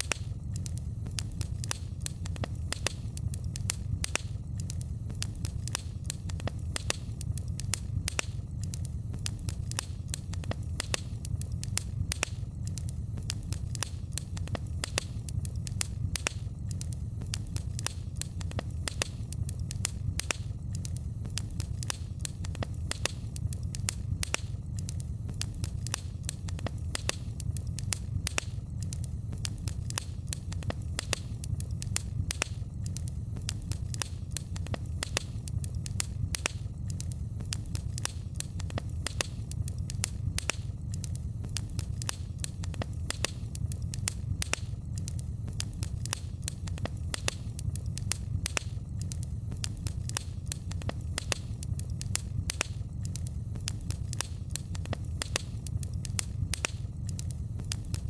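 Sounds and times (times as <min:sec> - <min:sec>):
low fire rumble: 0:00.0 - 0:58.0
wood fire crackling and popping: 0:00.0 - 0:58.0.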